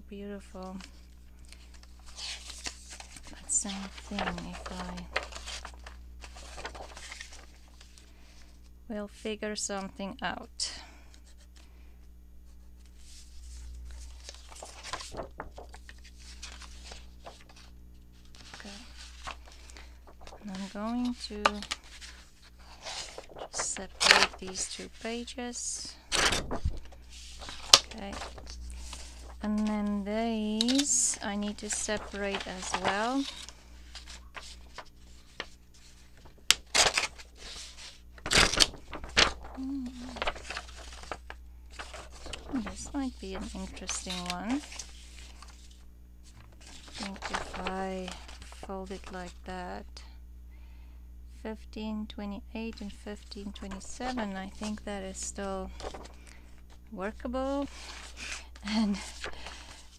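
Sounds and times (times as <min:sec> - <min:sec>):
low steady hum: 0:00.0 - 0:59.9
paper pages rustling: 0:00.7 - 0:08.8, 0:12.5 - 0:49.4, 0:52.8 - 0:59.9.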